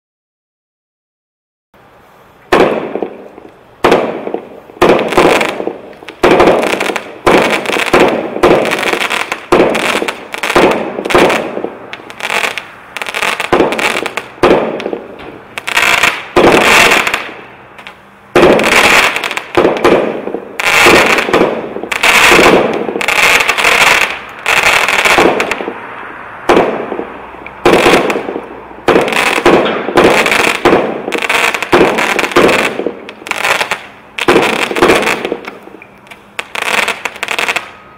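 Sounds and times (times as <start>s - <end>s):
crackling firework stars: 1.8s - 37.9s
firework shots firing: 2.5s - 25.8s, 26.4s - 37.8s.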